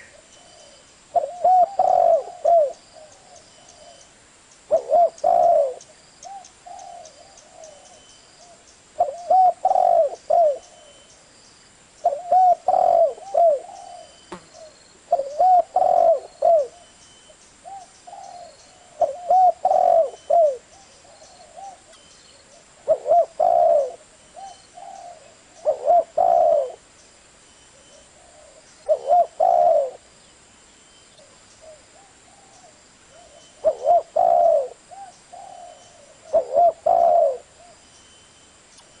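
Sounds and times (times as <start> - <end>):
dove cooing: 0.0 - 4.0, 4.7 - 11.0, 12.0 - 17.0, 17.6 - 26.9, 27.7 - 30.0, 31.2 - 37.8.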